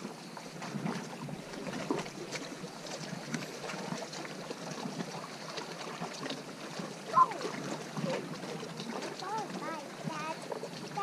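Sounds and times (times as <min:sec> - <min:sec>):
waves lapping on rocky shore: 0:00.0 - 0:11.0.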